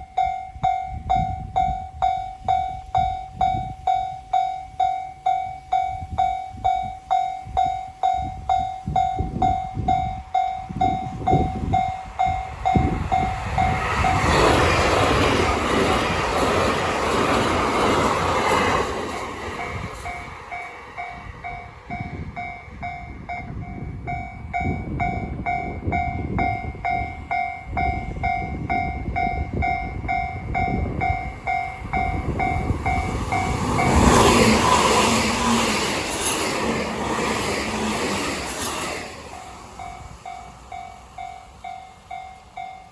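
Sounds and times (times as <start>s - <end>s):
level crossing warning bell: 0.0s - 15.4s, 19.1s - 35.7s, 39.1s - 42.9s
passing train rush: 0.0s - 42.9s.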